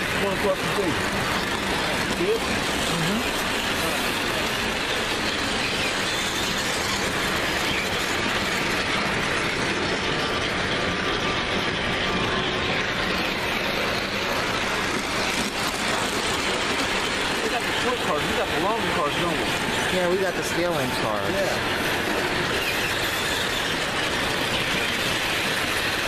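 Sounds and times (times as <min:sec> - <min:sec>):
model trains running on track: 0:00.0 - 0:26.0.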